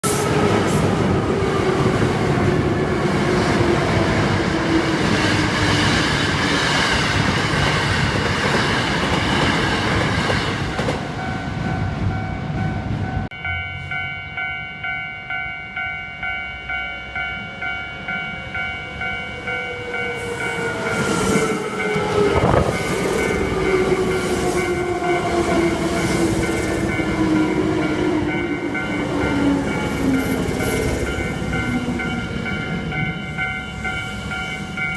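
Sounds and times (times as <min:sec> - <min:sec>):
electric train passing: 0:00.0 - 0:34.9.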